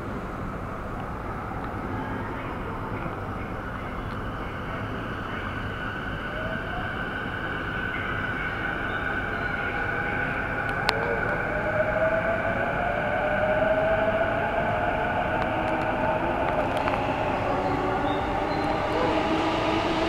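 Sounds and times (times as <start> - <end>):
train motor whine: 3.1 - 20.0.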